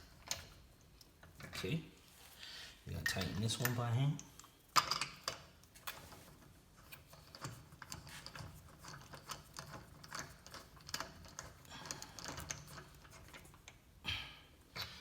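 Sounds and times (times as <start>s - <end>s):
lug nut clicking and scraping: 0.0s - 1.7s, 3.0s - 13.9s.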